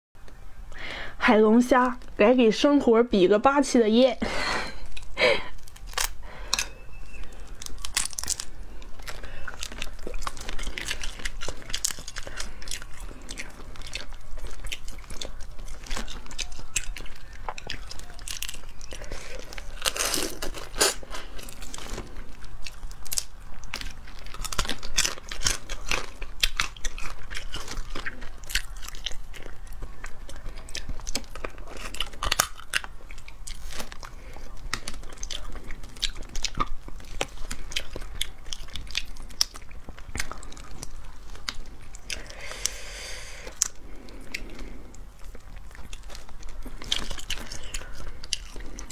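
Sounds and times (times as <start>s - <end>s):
crunching crustacean shells: 4.5s - 48.9s.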